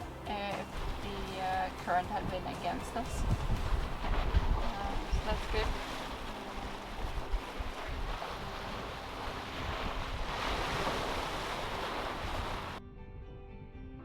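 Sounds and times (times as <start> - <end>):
sea water rushing around boat: 0.0 - 12.8
quiet background music: 0.0 - 14.0
wind buffeting microphone: 0.6 - 13.7.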